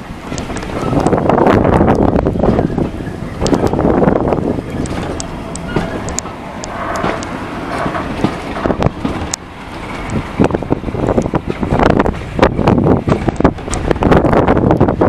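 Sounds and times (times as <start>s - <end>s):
moving train running noise: 0.0s - 15.0s
wind buffeting microphone: 0.0s - 15.0s.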